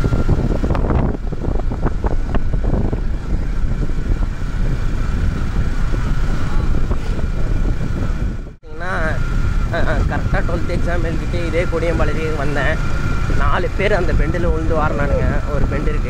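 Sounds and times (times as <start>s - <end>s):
motorcycle engine running: 0.0s - 16.0s
thin steady whine: 0.0s - 16.0s
wind noise on microphone: 0.0s - 16.0s.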